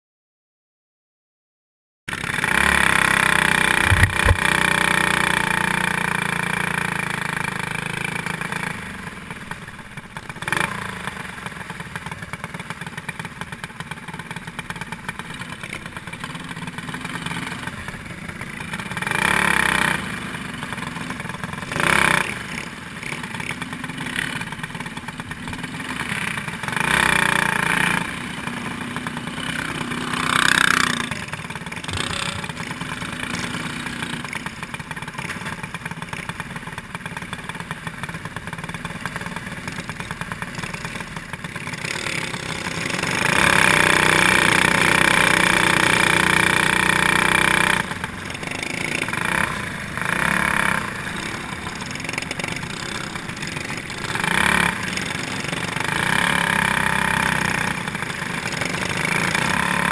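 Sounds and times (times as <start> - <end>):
kart engines running: 2.1 - 59.9.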